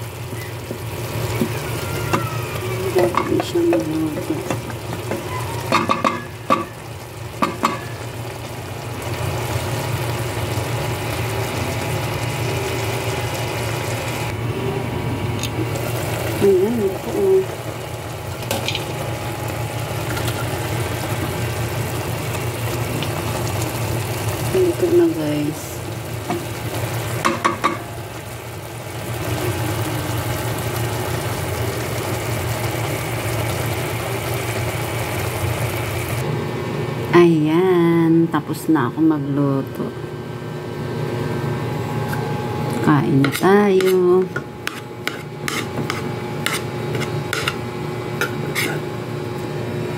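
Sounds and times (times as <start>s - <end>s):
pot simmering with sizzling hiss: 0.0s - 14.4s, 15.3s - 36.5s, 42.8s - 49.5s.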